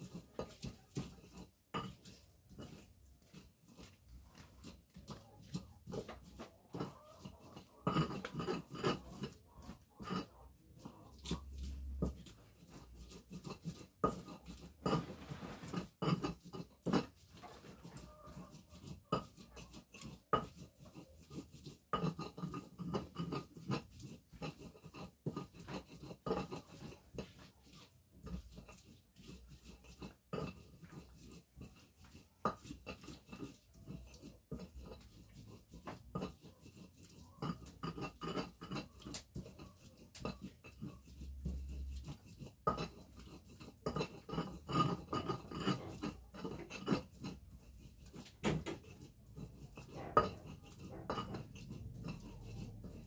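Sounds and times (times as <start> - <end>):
pestle grinding in a mortar: 0.0 - 53.0.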